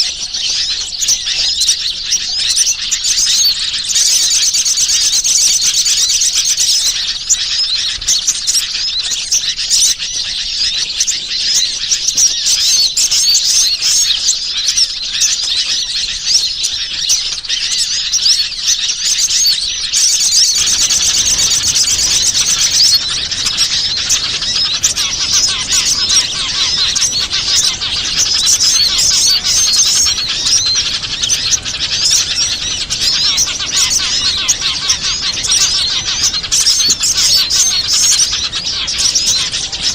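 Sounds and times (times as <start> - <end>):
songbirds chirping in chorus: 0.0 - 39.9.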